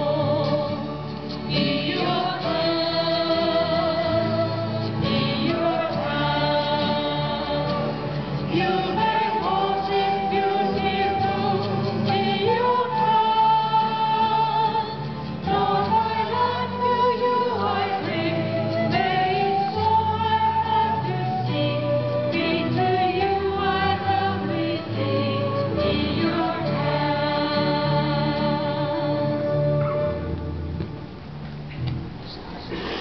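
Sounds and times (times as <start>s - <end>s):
choir singing a hymn: 0.0s - 30.3s
acoustic guitar: 0.0s - 33.0s.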